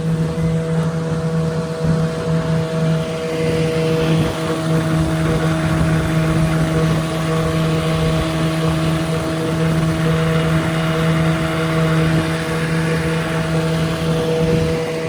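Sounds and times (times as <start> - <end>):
outboard motor running: 0.0 - 15.0
rush of water noise: 0.0 - 15.0.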